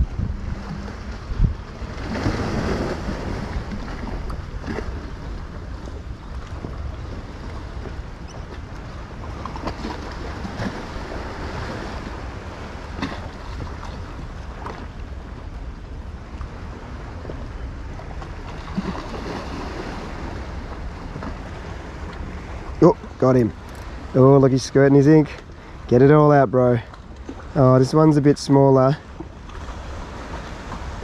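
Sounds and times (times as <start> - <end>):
wind buffeting microphone: 0.0 - 27.6
water lapping around boat: 0.0 - 31.0.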